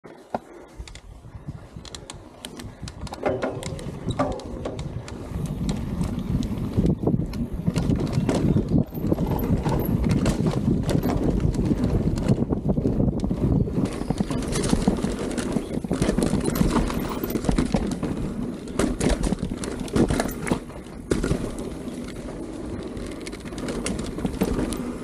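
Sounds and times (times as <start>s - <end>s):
bike clicking and rattling: 0.0s - 25.0s.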